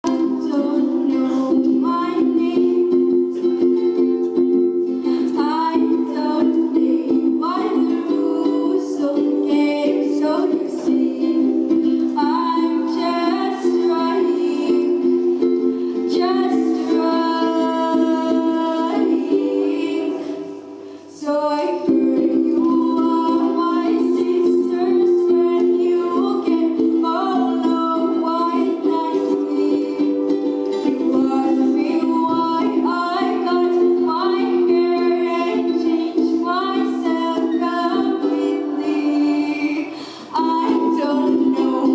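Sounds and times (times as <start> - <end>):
girl singing: 0.0 - 41.9
plucked-string accompaniment: 0.0 - 41.9.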